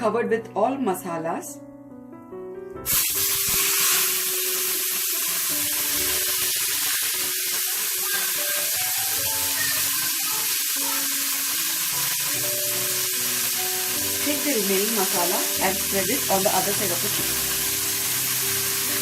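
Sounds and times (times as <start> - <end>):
chicken sizzling in oil: 2.9 - 19.0.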